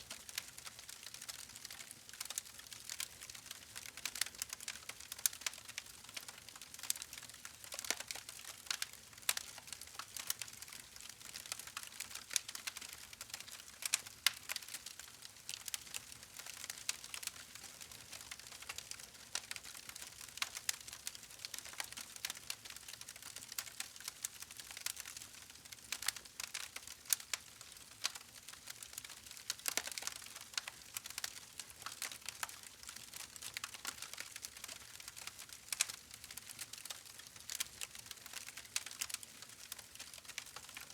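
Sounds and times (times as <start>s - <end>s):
campfire crackling and popping: 0.2s - 40.9s.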